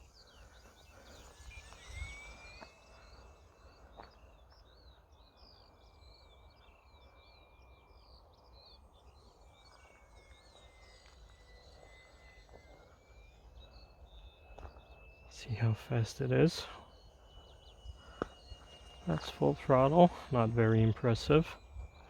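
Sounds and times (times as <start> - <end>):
birds chirping: 0.0 - 22.0
small electric motor whine: 0.0 - 22.0.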